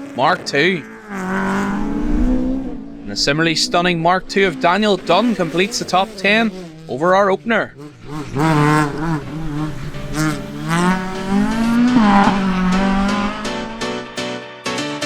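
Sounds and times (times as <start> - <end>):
rally car engine revving: 0.0 - 14.4.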